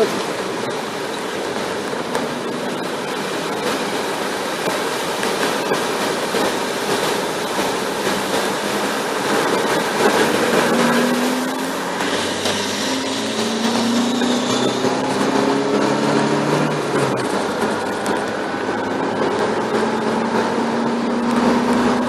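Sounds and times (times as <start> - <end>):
car engine: 0.0 - 22.0
floodwater rushing and splashing: 0.0 - 22.0.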